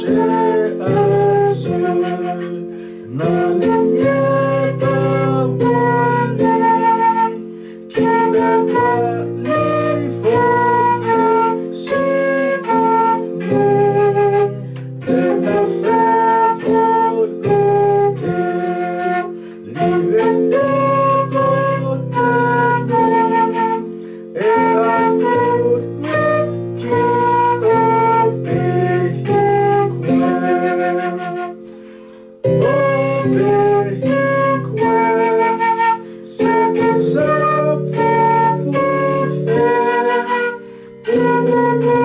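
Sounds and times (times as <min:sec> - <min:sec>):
flute playing hymn melody: 0:00.0 - 0:42.0
held accompaniment chords: 0:00.0 - 0:42.0.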